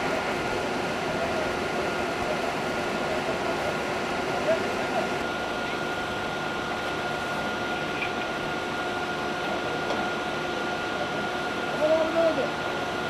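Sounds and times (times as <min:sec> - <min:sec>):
fire truck engine droning: 0:00.0 - 0:13.0
thin steady whine: 0:00.0 - 0:13.0.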